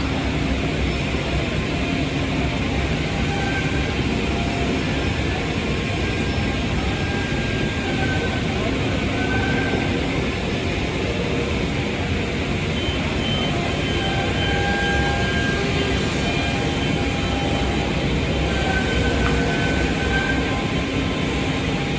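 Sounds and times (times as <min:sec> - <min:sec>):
machining center running: 0:00.0 - 0:21.9.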